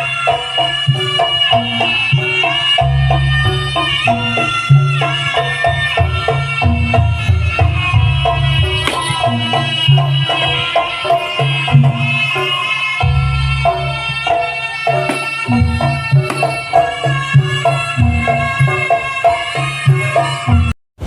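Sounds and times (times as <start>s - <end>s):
pitched metal percussion: 0.0s - 20.7s
hand drums playing busy pattern: 0.1s - 20.7s.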